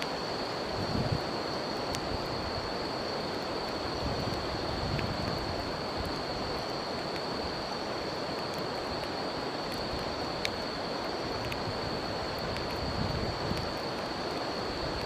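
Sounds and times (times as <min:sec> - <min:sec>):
campfire crackling: 0:00.0 - 0:15.0
insects trilling: 0:00.0 - 0:15.0
river flowing: 0:00.0 - 0:15.0.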